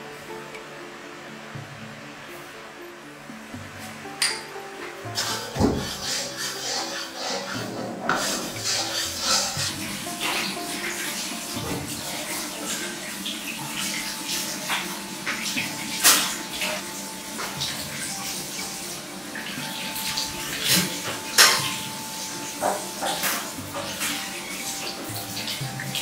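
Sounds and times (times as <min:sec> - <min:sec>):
scourer scrubbing potato: 0:05.1 - 0:26.0
tap water running into sink: 0:05.1 - 0:26.0.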